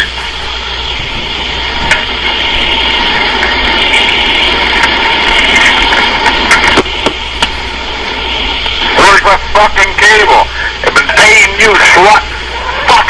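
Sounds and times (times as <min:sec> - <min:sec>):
telephone line hiss and hum: 0:00.0 - 0:13.0.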